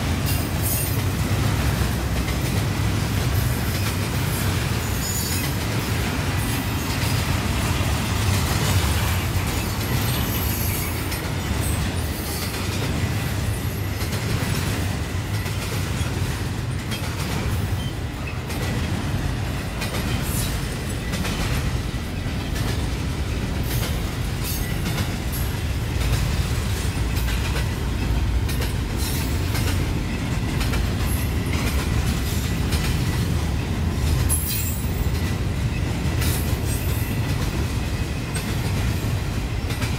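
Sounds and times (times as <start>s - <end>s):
rail clicks: 0.0s - 39.9s
train wheels rumbling on rails: 0.0s - 39.9s.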